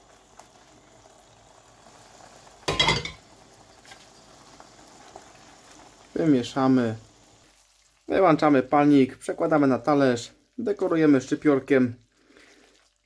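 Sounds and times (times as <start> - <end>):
sauce simmering in frying pan: 0.0 - 13.0.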